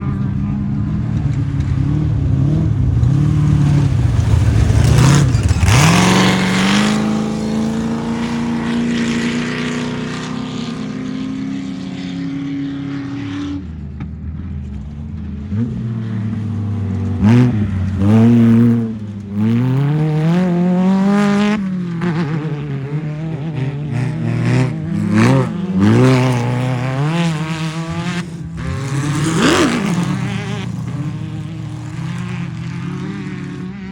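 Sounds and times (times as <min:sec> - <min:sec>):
race car engines passing by: 0:00.0 - 0:33.9.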